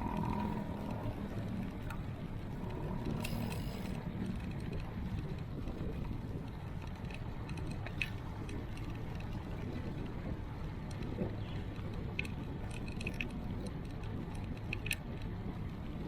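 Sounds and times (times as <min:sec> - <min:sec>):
bicycle mechanism clicking: 0:00.0 - 0:10.2, 0:10.8 - 0:15.6
wind and tyres rushing: 0:00.0 - 0:16.0.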